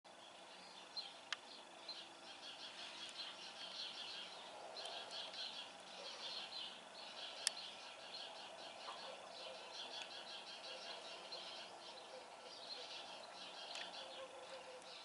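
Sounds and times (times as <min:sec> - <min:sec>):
small birds chirping and twittering: 0:00.1 - 0:15.0.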